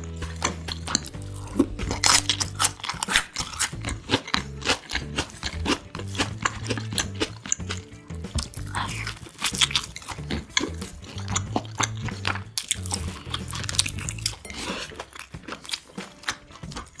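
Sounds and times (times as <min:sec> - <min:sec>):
background music with bass line: 0:00.0 - 0:17.0
crunchy food chewing: 0:00.0 - 0:17.0.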